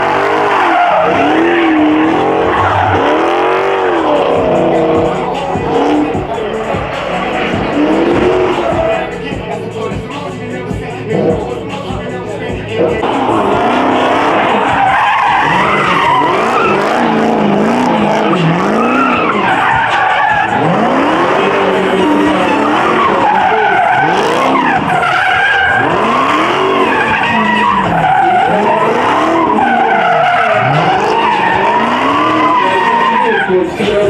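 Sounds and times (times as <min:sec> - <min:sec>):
car engines revving: 0:00.0 - 0:34.0
tyres squealing: 0:00.0 - 0:34.0.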